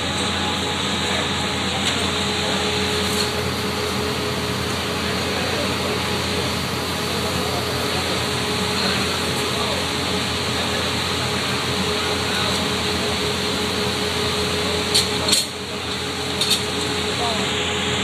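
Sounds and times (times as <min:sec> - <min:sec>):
furnace and blowers roaring: 0:00.0 - 0:18.0.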